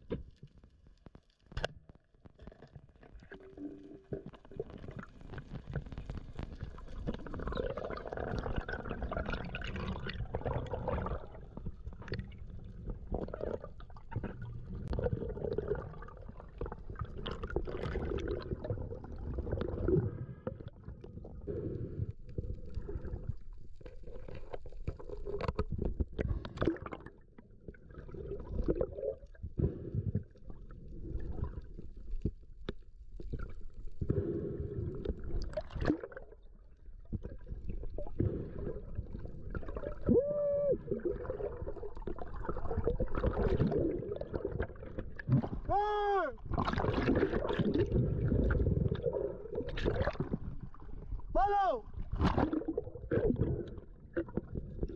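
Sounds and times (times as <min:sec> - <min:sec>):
water gurgling and sloshing: 0:01.6 - 0:54.9.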